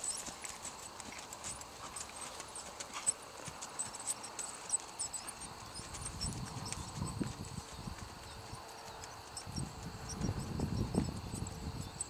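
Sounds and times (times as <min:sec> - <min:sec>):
horse hoofbeats trotting on dirt: 0:00.0 - 0:12.0.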